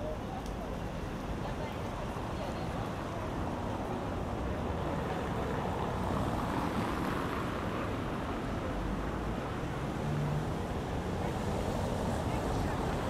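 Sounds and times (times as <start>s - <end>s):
traffic: 0.0s - 13.0s.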